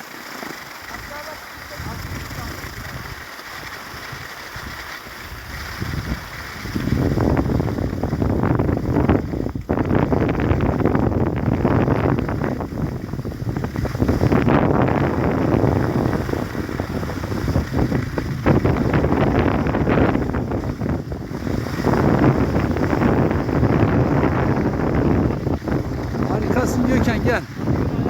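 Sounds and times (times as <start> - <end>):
wind buffeting microphone: 0.8 - 28.0.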